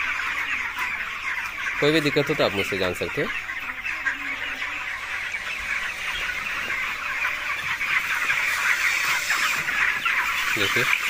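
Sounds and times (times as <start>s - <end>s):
chicks peeping and chirping: 0.0s - 11.0s.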